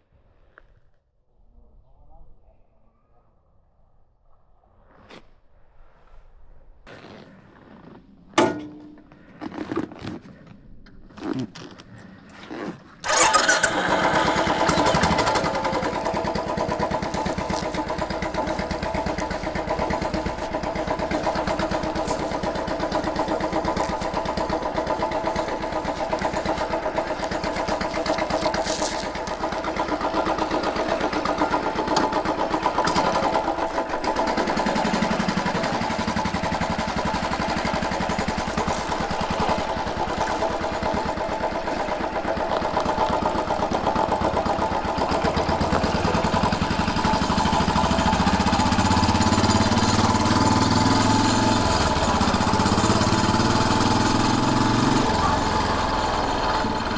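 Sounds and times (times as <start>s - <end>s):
motorcycle engine starting and idling: 8.4s - 10.3s, 10.9s - 56.9s.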